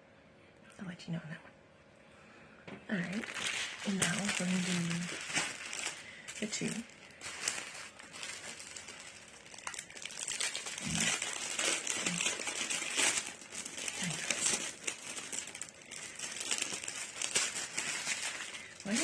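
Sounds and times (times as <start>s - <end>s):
packaging crinkling and tearing: 2.9s - 19.0s.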